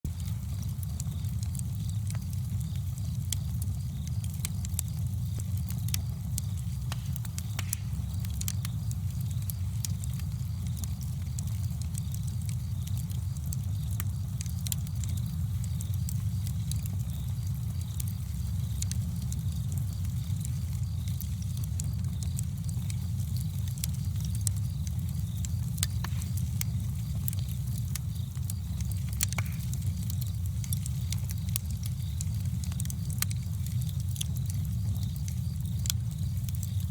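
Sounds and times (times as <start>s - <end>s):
campfire crackling and popping: 0.0s - 36.9s
low fire rumble: 0.0s - 36.9s.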